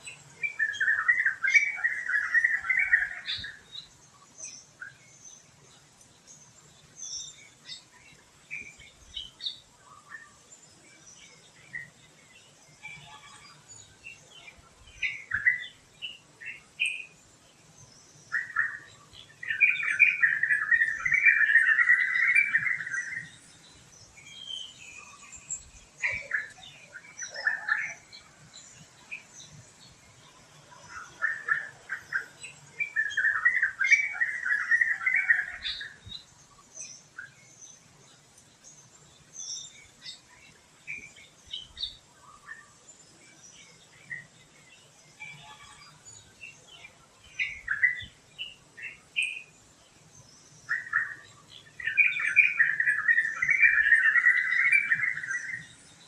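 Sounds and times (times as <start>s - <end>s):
forest birds chirping: 0.0s - 56.0s.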